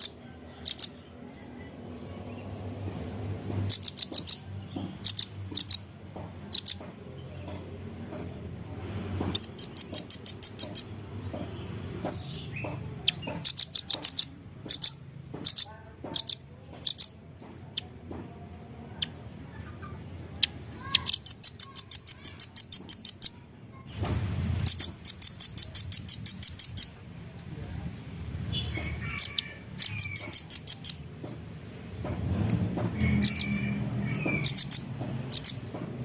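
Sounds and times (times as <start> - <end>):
bird chipping calls: 0.0 - 7.7, 8.6 - 18.0, 18.9 - 23.5, 24.4 - 36.0.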